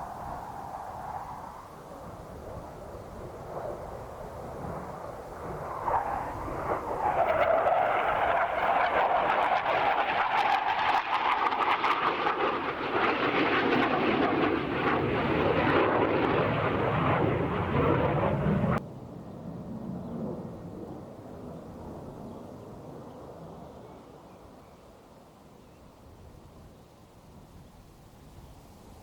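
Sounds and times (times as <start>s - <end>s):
jet engine roar: 0.0s - 25.5s.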